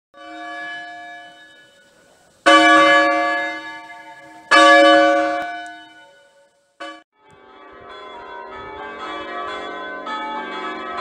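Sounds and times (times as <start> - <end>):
church bell ringing: 0.2 - 11.0.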